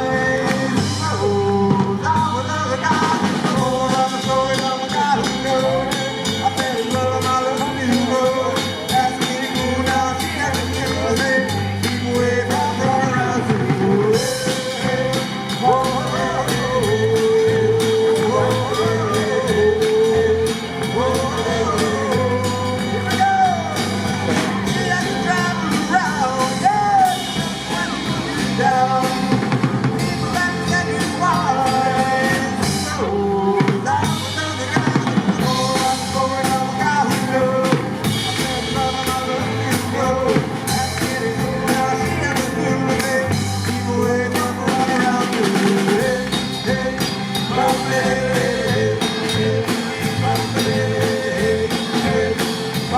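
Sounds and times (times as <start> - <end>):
drum kit beat: 0.0 - 52.9
live band music: 0.0 - 52.9
melodic lead line: 0.0 - 52.9.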